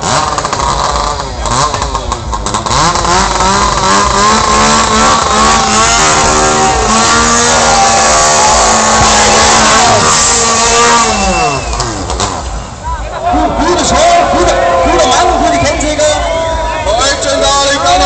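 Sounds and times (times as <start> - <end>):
chainsaw engines revving: 0.0 - 18.0.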